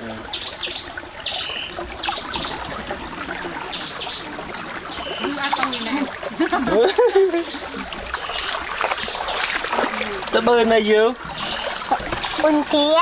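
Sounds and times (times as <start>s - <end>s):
stream water trickling: 0.0s - 13.0s.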